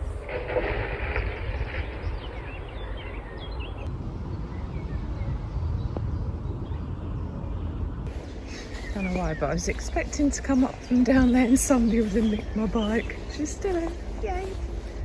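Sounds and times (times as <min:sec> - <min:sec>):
low rumble: 0:00.0 - 0:15.0
small birds chirping: 0:01.4 - 0:15.0.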